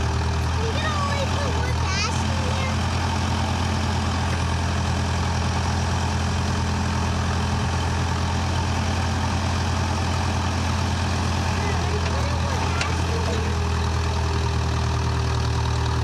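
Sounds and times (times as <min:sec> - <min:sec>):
backhoe engine running: 0:00.0 - 0:16.0.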